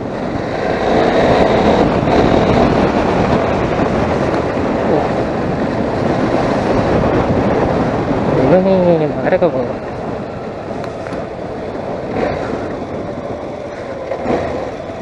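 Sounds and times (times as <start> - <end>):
motorcycle engine: 0.0 - 15.0
wind rush on microphone: 0.0 - 15.0.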